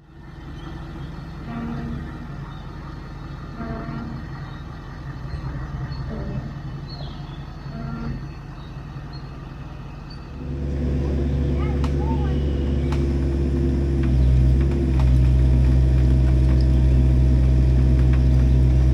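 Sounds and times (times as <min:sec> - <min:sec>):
heavy engine running: 0:00.0 - 0:18.9.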